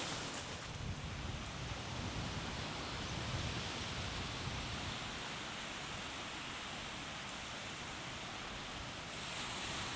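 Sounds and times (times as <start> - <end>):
wind by the sea: 0.0 - 9.9.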